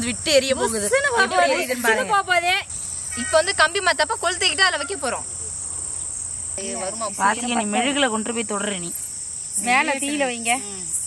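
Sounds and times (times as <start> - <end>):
voices talking and calling out: 0.0 - 11.0.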